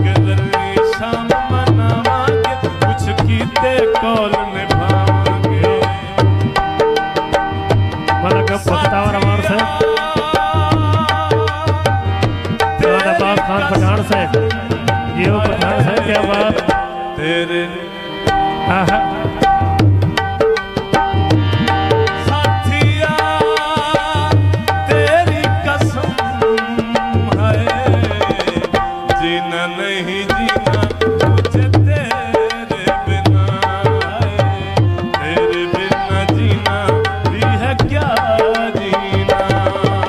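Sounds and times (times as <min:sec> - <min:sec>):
hand drum rhythm: 0:00.0 - 0:17.0, 0:18.4 - 0:40.0
instrumental melody: 0:00.0 - 0:40.0.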